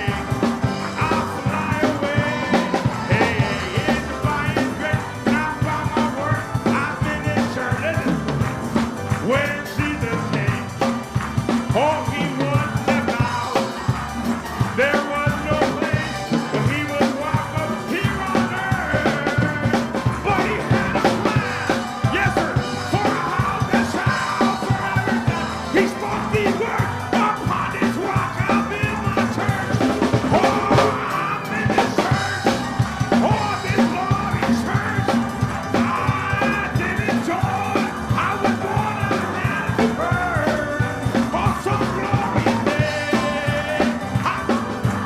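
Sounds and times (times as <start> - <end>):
band playing gospel hymn: 0.0 - 45.0
voices singing: 0.0 - 45.0.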